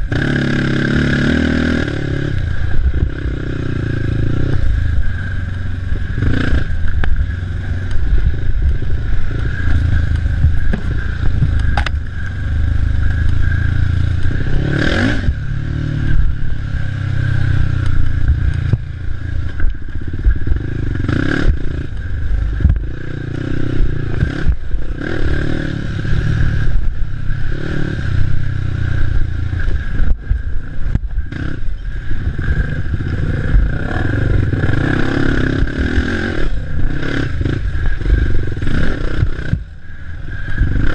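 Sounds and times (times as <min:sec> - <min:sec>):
atv engine running hard: 0:00.0 - 0:40.9
vehicle rattling over rough trail: 0:00.0 - 0:40.9.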